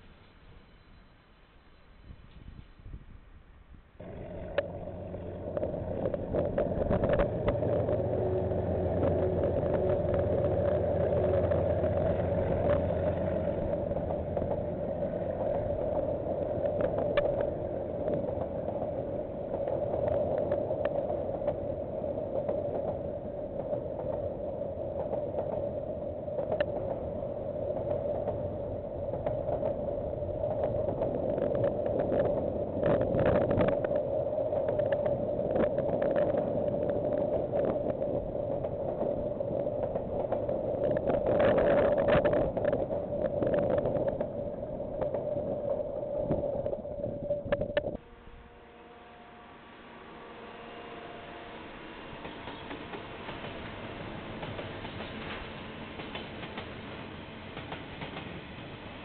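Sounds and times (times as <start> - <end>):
train rolling rumble: 0.0 - 59.0
low engine hum: 4.0 - 51.2.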